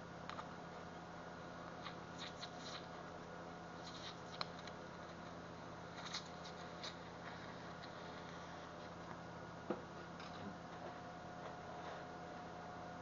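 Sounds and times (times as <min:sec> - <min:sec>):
welding arc hum: 0:00.0 - 0:13.0.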